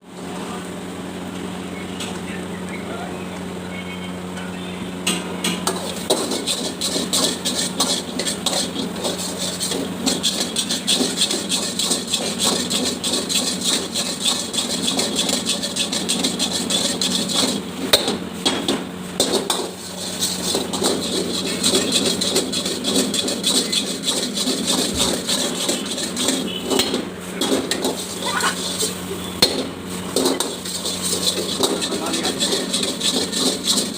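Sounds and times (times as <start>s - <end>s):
metal spatula scraping wok: 5.6s - 33.9s.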